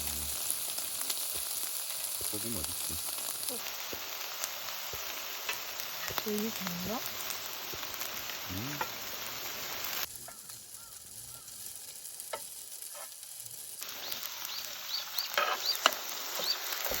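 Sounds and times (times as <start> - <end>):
food sizzling in a pan: 0.0 - 17.0
stirring in a pan: 0.0 - 17.0.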